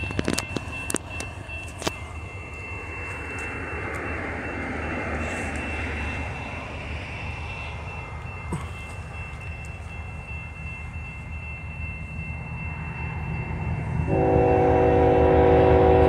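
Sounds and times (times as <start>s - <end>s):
distant freight train rumbling: 0.0s - 16.0s.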